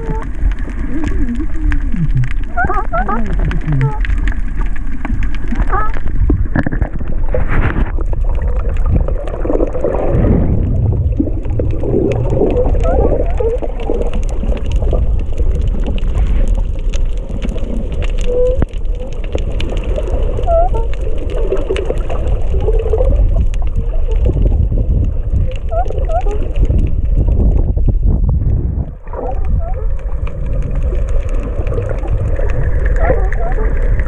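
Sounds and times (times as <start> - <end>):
underwater rumble of moving water: 0.0 - 34.0.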